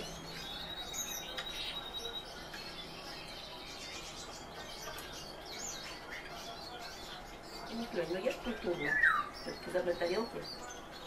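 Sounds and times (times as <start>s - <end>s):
thrushes chirping: 0.0s - 11.0s.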